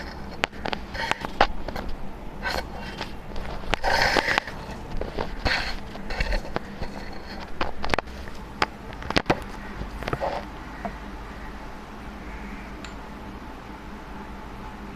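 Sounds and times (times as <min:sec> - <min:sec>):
low hum and hiss: 0:00.0 - 0:14.9.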